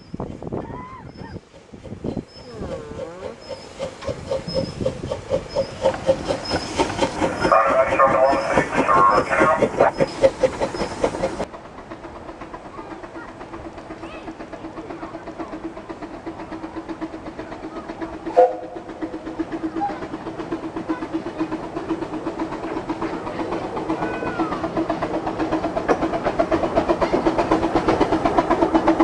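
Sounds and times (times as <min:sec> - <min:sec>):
steam locomotive exhaust beats: 0:00.0 - 0:29.0.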